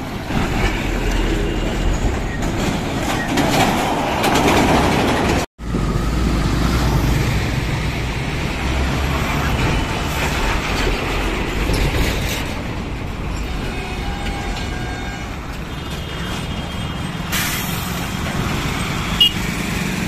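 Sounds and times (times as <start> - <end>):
truck engines rumbling: 0.0 - 20.0
tyres rolling on rough road: 0.0 - 20.0.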